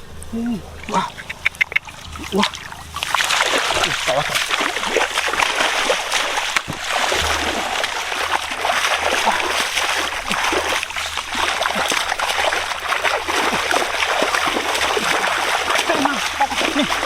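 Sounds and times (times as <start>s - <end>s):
shallow water splashing: 0.0s - 17.0s.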